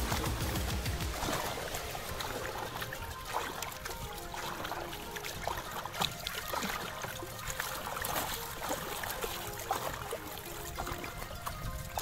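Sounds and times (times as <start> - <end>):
paddle splashing water: 0.0 - 12.0
water trickling: 0.0 - 12.0.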